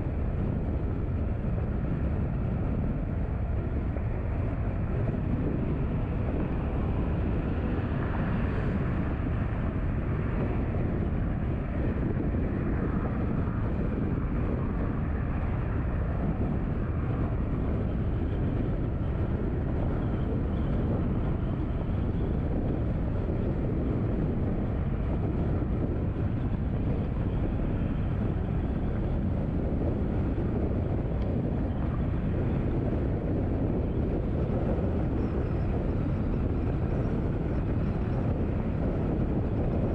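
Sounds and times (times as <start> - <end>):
car tyres and engine rumble: 0.0 - 39.9
wind: 0.0 - 39.9.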